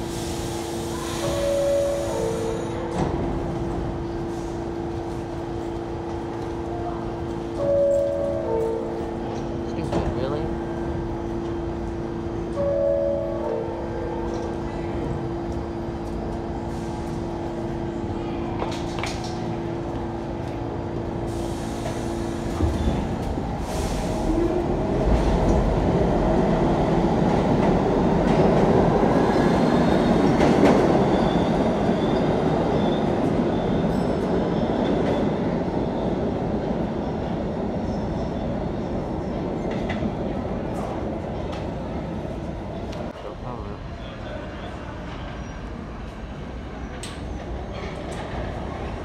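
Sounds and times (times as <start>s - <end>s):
subway train electrical hum: 0.0s - 49.0s
subway train rumbling: 0.0s - 49.0s.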